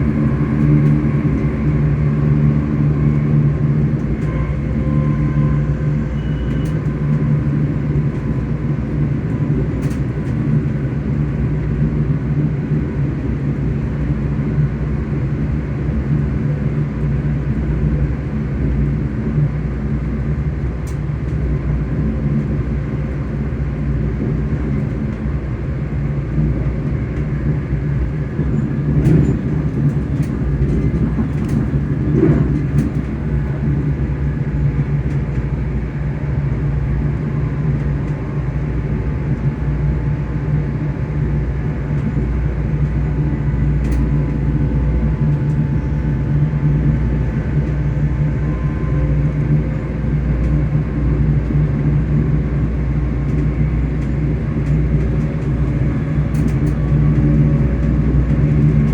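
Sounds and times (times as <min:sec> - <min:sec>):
train rumbling on rails: 0:00.0 - 0:58.9
train traction motors humming: 0:00.0 - 0:58.9.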